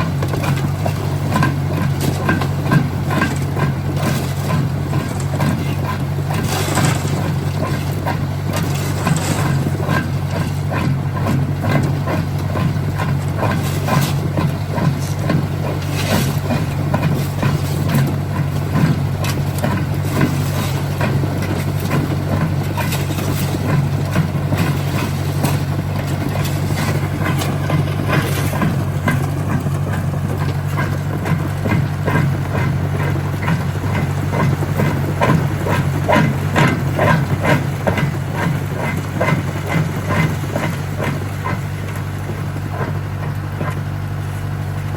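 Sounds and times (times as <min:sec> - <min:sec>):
engine drone: 0:00.0 - 0:44.9.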